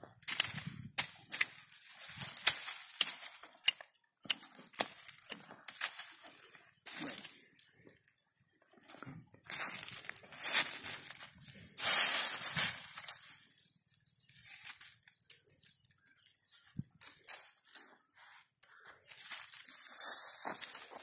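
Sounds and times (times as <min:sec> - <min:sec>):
dry leaves crunching and rustling: 0:00.3 - 0:03.6, 0:04.5 - 0:07.6, 0:08.9 - 0:18.2, 0:19.0 - 0:21.0.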